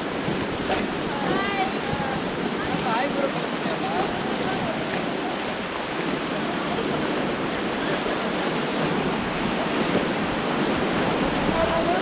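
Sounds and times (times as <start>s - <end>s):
river water rushing over rapids: 0.0s - 12.0s.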